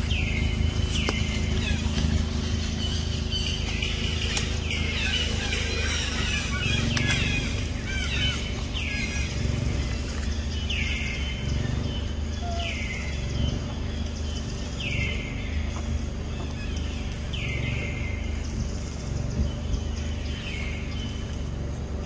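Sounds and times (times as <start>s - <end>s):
birds calling: 0.0s - 22.0s
birds chirping: 0.0s - 22.0s
steady low drone: 0.0s - 22.0s.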